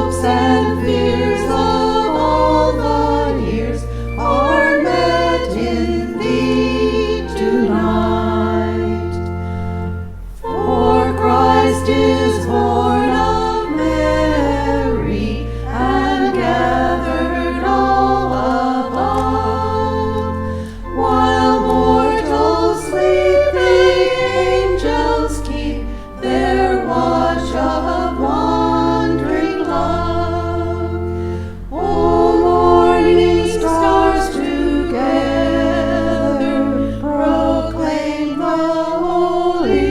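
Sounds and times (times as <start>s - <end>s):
choir singing: 0.0s - 39.9s
sustained low notes: 0.0s - 39.9s.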